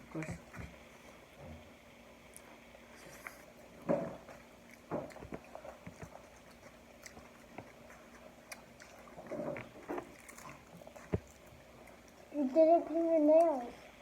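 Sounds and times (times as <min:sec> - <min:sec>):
chewing: 0:02.3 - 0:13.9.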